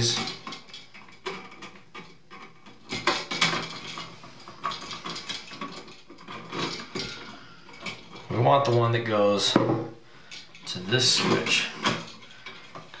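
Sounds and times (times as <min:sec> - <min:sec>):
wires clicking and rattling in metal box: 0:00.0 - 0:09.6, 0:10.2 - 0:13.0.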